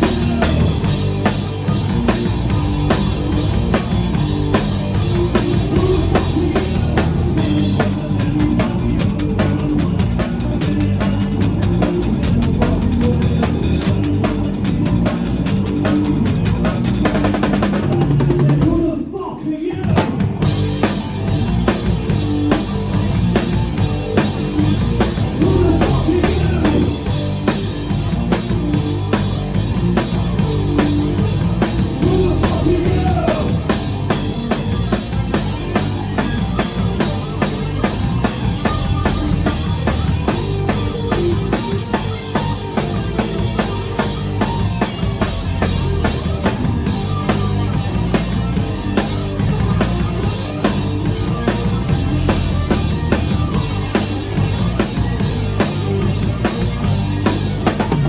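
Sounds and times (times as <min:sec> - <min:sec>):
drum kit beat: 0:00.0 - 0:18.8, 0:20.0 - 0:58.0
live rock band playing: 0:00.0 - 0:18.9, 0:19.9 - 0:58.0.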